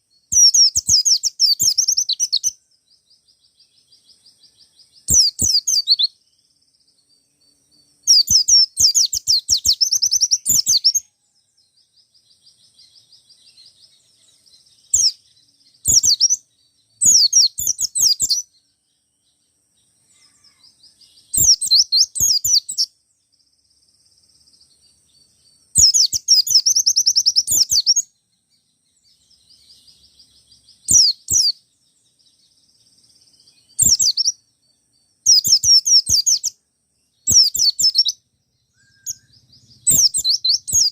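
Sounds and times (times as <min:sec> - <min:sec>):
bird twittering trills: 0:00.0 - 0:40.9
soft bird twittering: 0:00.0 - 0:40.9.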